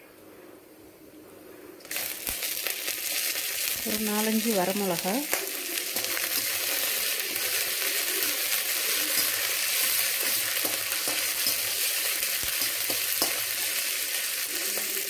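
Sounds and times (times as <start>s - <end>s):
lentils sizzling in oil: 1.8s - 15.0s.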